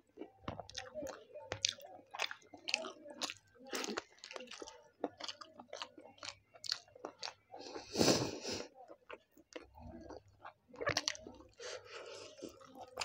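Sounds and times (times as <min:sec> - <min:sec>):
wet chewing and lip smacks: 0:00.2 - 0:07.9, 0:08.9 - 0:13.0.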